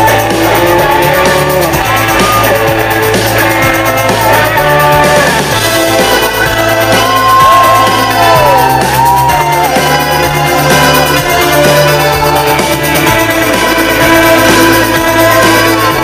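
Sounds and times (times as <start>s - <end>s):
bass line: 0.0s - 16.0s
electric guitar: 0.0s - 16.0s
keyboards: 0.0s - 16.0s.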